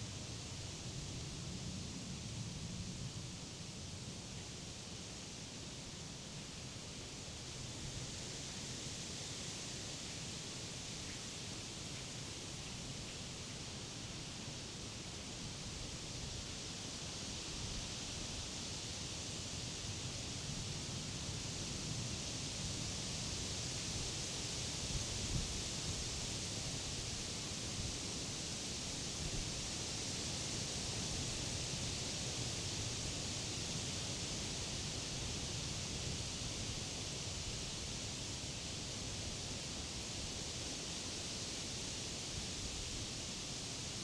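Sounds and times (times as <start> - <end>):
wind rustling leaves: 0.0 - 44.0.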